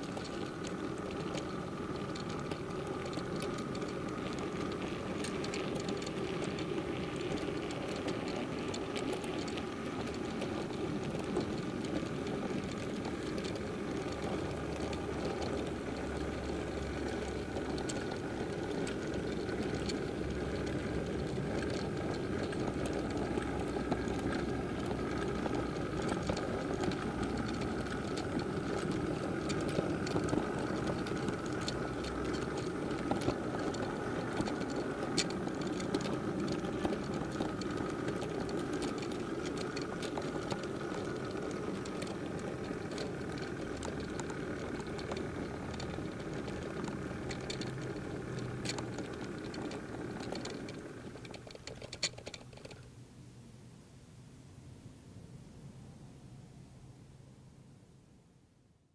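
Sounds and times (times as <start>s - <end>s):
model train wheels rattling: 0.0s - 53.0s
wheels clicking over rail joints: 0.0s - 53.0s
faint whine: 0.0s - 58.9s.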